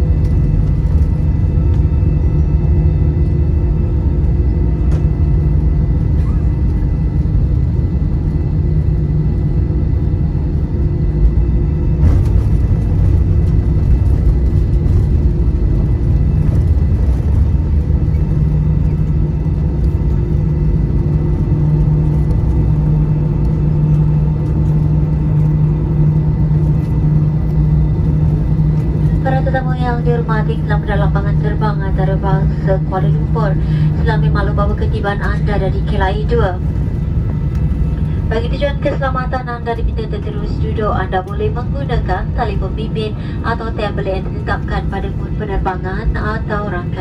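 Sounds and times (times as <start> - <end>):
aircraft cabin rumble: 0.0 - 47.0
jet engine whine: 0.0 - 47.0.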